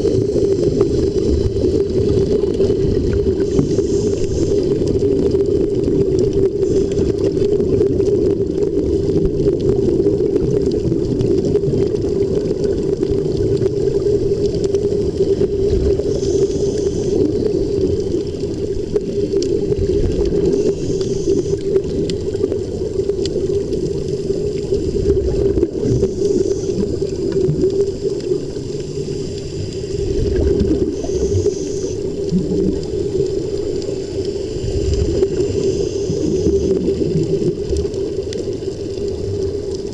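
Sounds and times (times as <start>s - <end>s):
bubbling water and air underwater: 0.0s - 39.9s.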